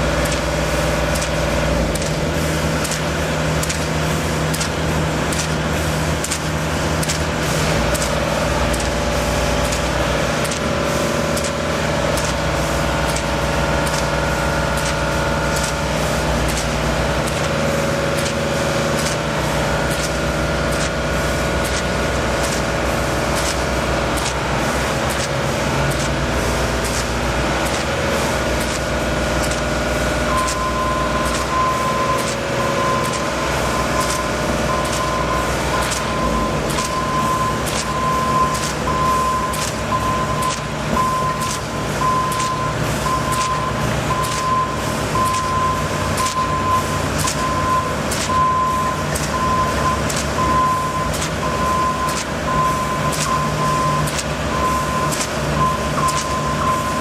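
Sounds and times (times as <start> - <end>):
diesel engine running: 0.0 - 57.0
reversing alarm beeping: 0.0 - 57.0.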